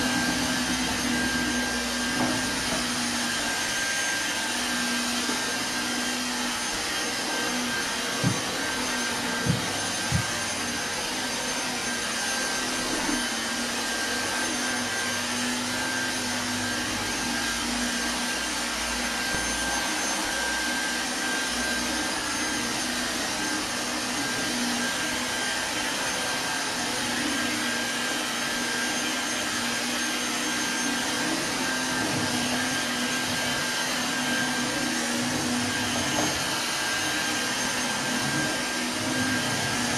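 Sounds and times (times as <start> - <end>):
vacuum cleaner running over carpet: 0.0 - 39.9.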